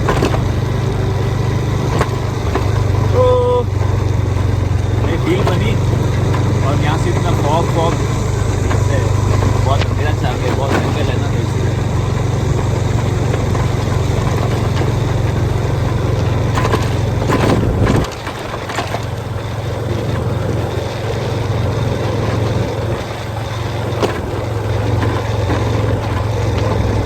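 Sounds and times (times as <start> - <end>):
knocks and rattles: 0.0 - 27.0
motorbike engine rumbling: 0.0 - 27.0.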